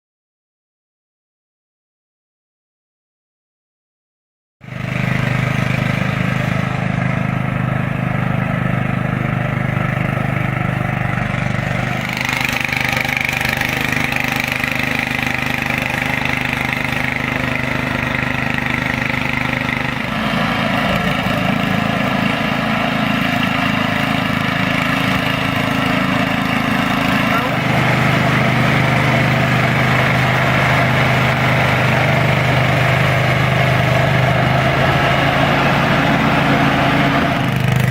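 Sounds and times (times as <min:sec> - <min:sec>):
engine running: 0:04.6 - 0:37.9.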